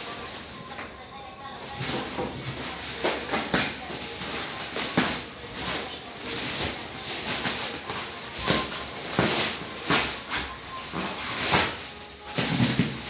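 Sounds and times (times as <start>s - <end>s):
plastic wrap crinkling and ripping: 0.0s - 13.0s.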